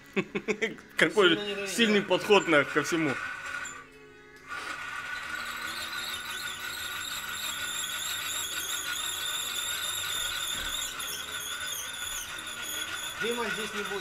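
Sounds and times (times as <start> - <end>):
high-pitched friction whine: 1.0 - 14.0.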